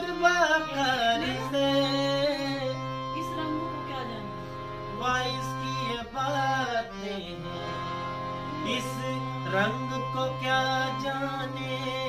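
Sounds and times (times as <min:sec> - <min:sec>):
man singing: 0:00.0 - 0:03.1, 0:04.9 - 0:12.0
harmonium melody over drone: 0:00.0 - 0:12.0.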